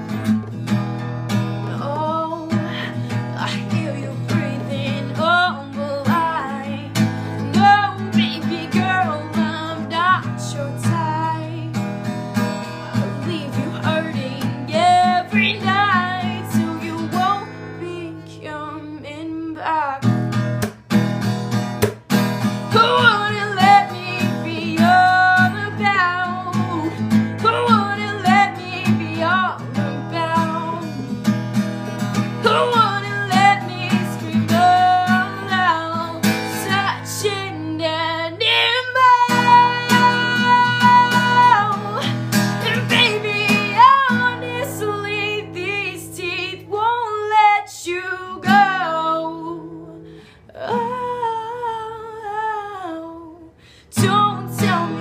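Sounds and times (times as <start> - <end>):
acoustic guitar strumming: 0.0 - 17.8, 20.0 - 47.0
woman singing: 1.3 - 20.4, 22.5 - 55.0.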